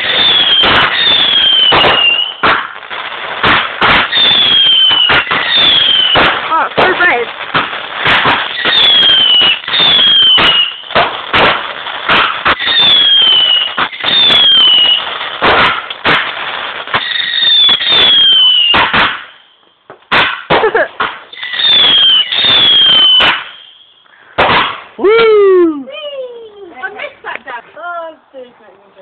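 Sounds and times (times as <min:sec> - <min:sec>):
falling firework whistles: 0:00.0 - 0:06.4, 0:07.5 - 0:25.6
fireworks bangs and crackles: 0:00.0 - 0:28.2.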